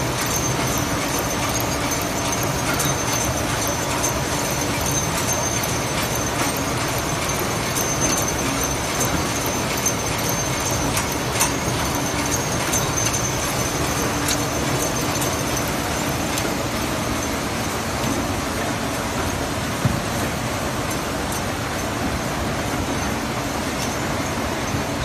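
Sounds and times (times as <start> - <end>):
packing machine mechanical din: 0.0 - 25.0.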